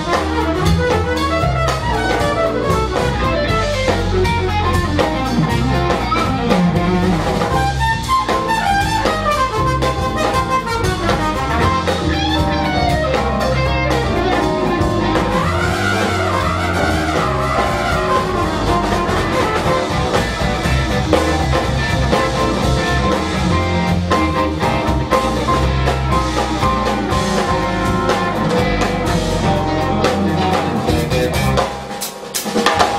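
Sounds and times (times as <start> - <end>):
trumpet: 0.0 - 31.6
electric bass: 0.0 - 32.0
electric guitar: 0.0 - 32.0
drum kit: 0.0 - 32.9.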